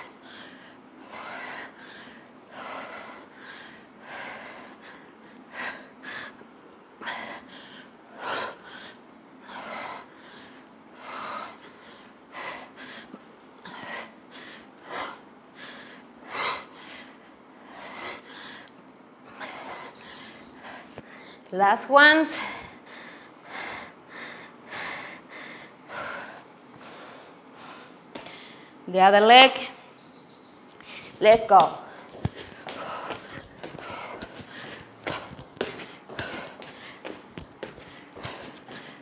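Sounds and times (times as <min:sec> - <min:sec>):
woman breathing hard: 0:00.0 - 0:21.5, 0:22.3 - 0:28.9, 0:31.8 - 0:39.0.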